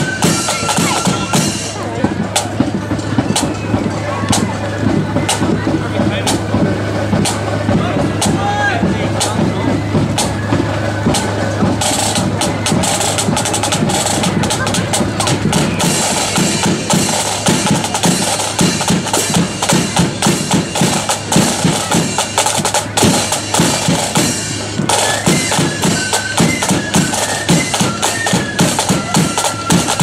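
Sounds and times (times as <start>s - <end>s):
bass drum beat: 0.0s - 30.0s
flute melody: 0.0s - 30.0s
rapid snare drumming: 0.0s - 30.0s.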